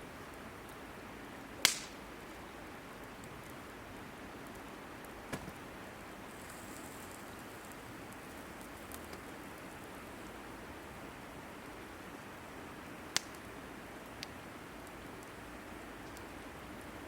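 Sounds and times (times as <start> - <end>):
wood fire hissing: 0.0 - 17.0.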